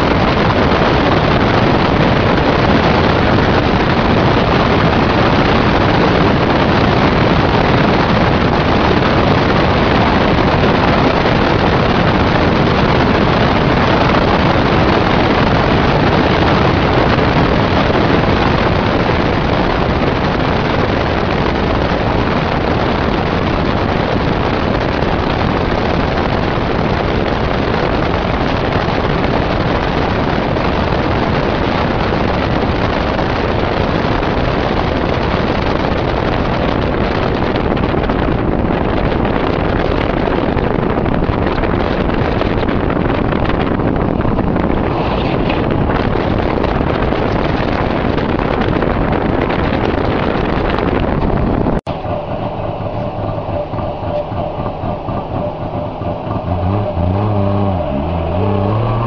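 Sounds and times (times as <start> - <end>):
two-stroke car engine: 0.0 - 59.0
wind and tyre noise: 0.0 - 59.0.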